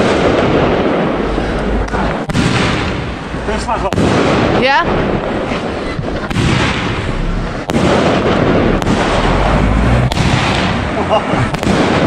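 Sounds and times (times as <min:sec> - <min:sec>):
fireworks crackling and booming: 0:00.0 - 0:12.0
sharp firework bangs: 0:00.0 - 0:12.0.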